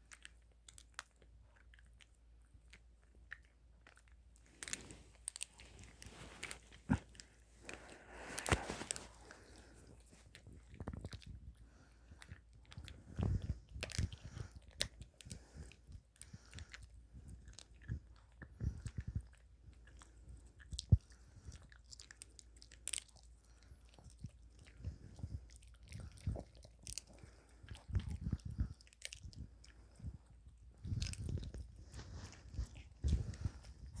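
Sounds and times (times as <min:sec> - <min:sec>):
dog crunching a treat: 0:00.0 - 0:34.0.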